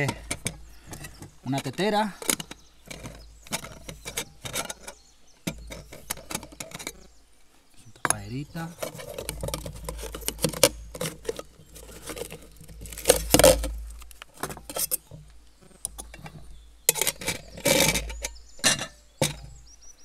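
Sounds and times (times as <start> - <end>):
metal cups clinking and scraping: 0.0 - 7.1, 8.0 - 15.3, 15.9 - 19.6
rattling scrapes: 0.0 - 7.1, 8.0 - 15.3, 15.9 - 19.6.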